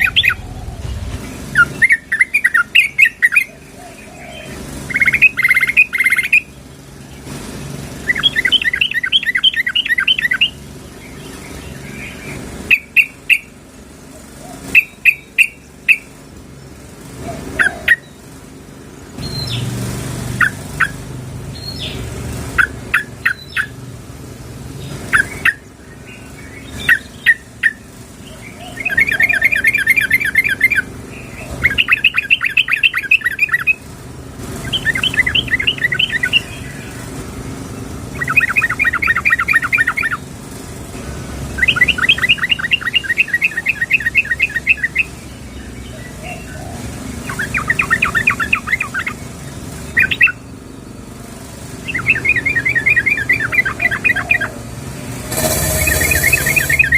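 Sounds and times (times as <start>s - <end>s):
bird calling with trills and chirps: 0.0s - 24.0s, 24.7s - 56.9s.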